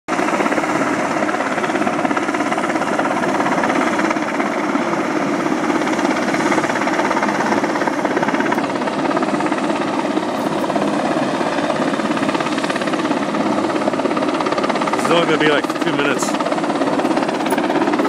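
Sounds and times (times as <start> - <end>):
helicopter rotor and turbine noise: 0.1 - 18.0.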